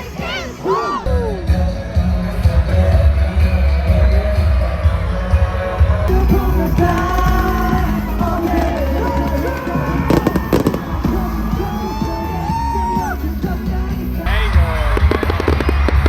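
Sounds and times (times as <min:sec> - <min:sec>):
crowd: 0:00.0 - 0:16.0
live pop concert music: 0:00.0 - 0:16.0.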